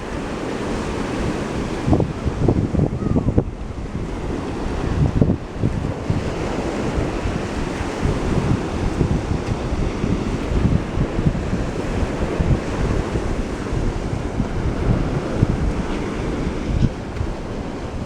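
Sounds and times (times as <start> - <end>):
waves washing in: 0.0 - 18.0
wind buffeting microphone: 0.0 - 18.0.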